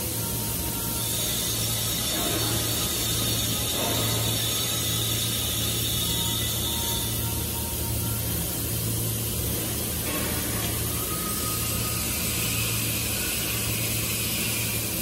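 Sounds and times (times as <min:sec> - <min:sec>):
low machinery hum: 0:00.0 - 0:15.0
machinery hiss: 0:00.0 - 0:15.0.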